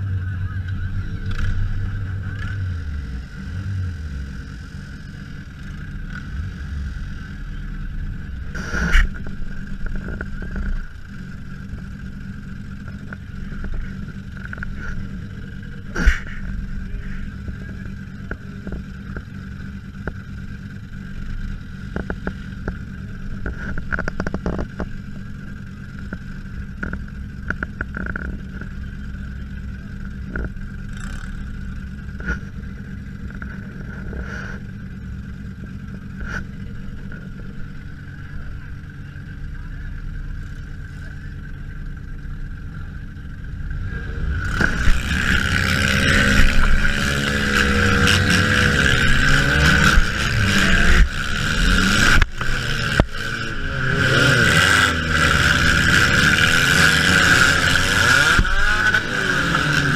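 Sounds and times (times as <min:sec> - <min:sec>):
car engine humming with whine: 0:00.0 - 0:59.9.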